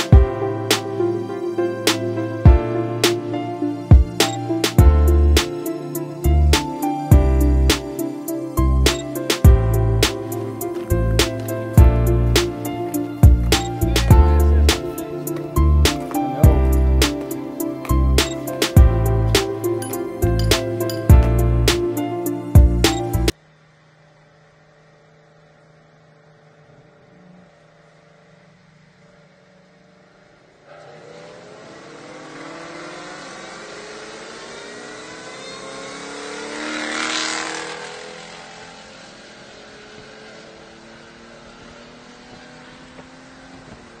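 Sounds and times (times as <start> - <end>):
car engines accelerating hard: 0.0 - 44.0.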